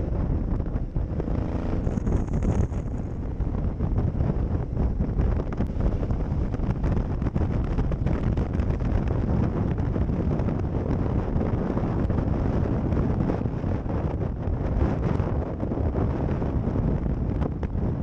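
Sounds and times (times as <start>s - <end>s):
motorcycle engine: 0.0s - 17.8s
road noise: 0.0s - 18.0s
wind buffeting microphone: 0.0s - 18.0s.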